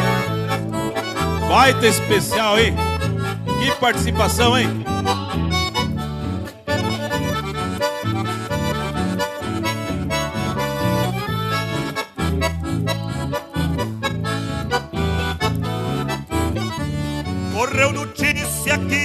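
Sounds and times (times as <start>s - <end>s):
accordion playing: 0.0s - 19.0s
bass line: 0.0s - 19.0s
guitar: 0.0s - 19.0s.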